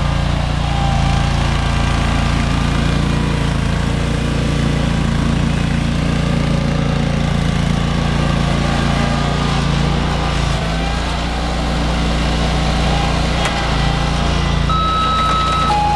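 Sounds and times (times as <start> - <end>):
garden tractor engine running: 0.0 - 15.9.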